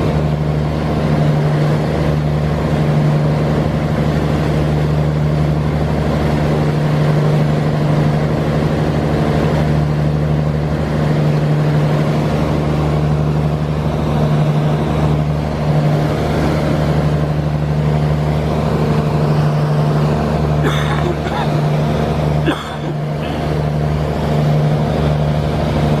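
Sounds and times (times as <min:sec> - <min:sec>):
boat engine running: 0:00.0 - 0:26.0
constant rushing noise: 0:00.0 - 0:26.0.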